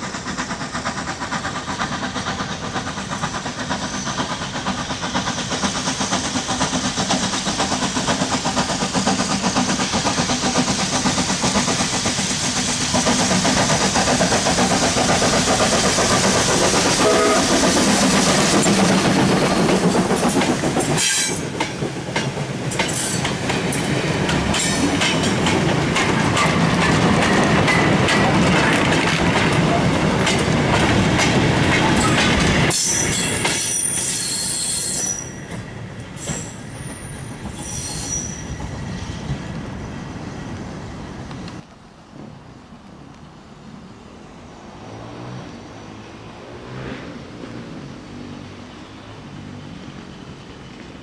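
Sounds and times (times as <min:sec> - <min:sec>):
steam locomotive running past: 0:00.0 - 0:51.0.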